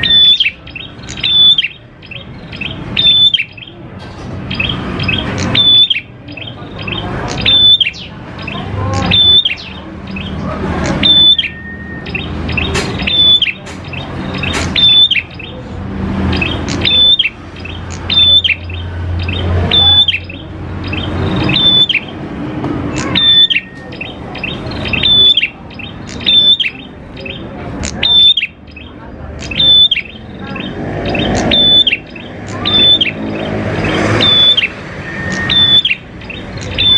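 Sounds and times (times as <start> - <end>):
songbird calling: 0.0 - 15.7, 16.3 - 22.3, 22.9 - 36.9.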